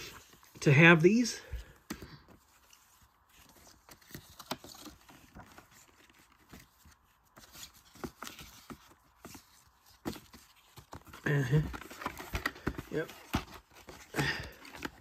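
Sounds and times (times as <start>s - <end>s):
clicks and rustles of plastic cases: 0.0s - 15.0s.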